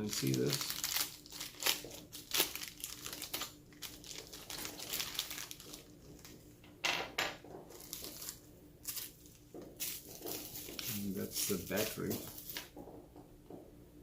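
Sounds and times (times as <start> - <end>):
packaging crinkling: 0.0 - 6.4, 7.7 - 12.7.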